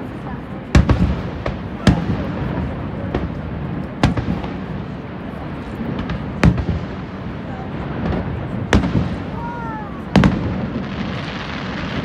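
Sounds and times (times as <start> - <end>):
fireworks bangs: 0.0 - 12.0
steady background noise: 0.0 - 12.0.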